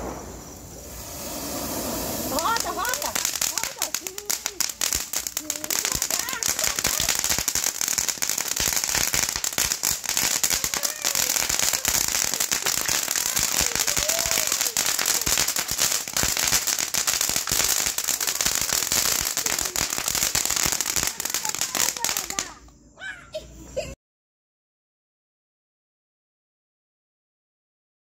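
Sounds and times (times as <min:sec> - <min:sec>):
firework fountain hissing and crackling: 0:00.0 - 0:22.8.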